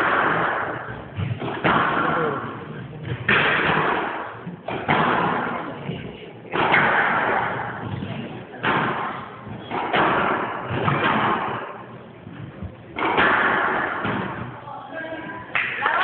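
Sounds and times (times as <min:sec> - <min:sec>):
squash ball cracks echoing: 0:00.0 - 0:11.9, 0:12.8 - 0:14.7.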